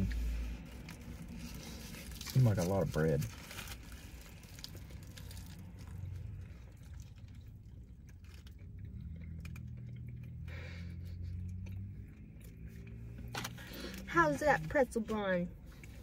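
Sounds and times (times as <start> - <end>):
faint chewing: 0.0 - 14.1
low steady hum: 0.0 - 16.0.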